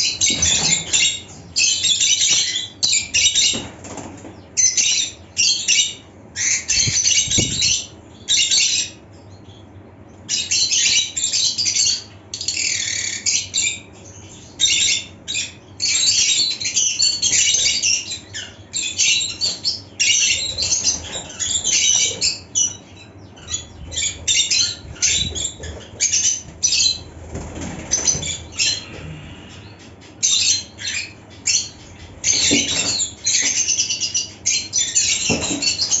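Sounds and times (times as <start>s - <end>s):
lovebirds squawking: 0.0s - 3.7s, 4.4s - 9.0s, 10.3s - 36.0s.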